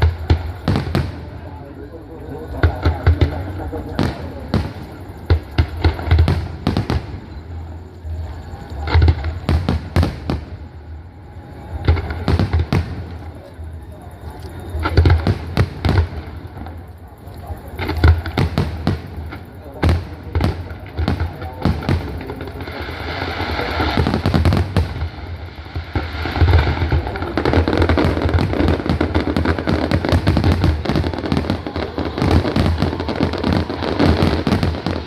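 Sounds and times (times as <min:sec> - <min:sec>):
fireworks banging and crackling: 0:00.0 - 0:35.0.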